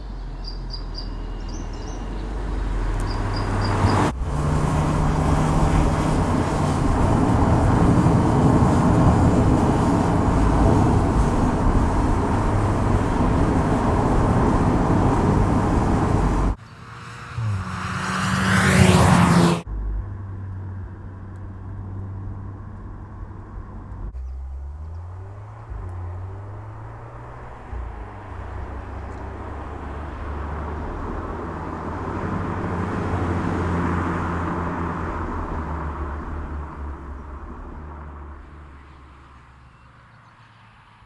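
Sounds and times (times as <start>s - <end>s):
car engine passing: 0.6s - 40.2s
car engine changing gears: 1.5s - 39.8s.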